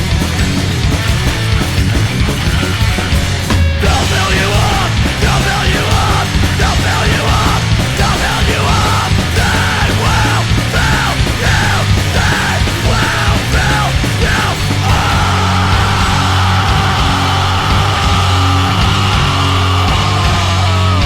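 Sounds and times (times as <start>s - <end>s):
distorted heavy metal music: 0.0s - 21.0s
yelled vocals: 0.0s - 21.0s.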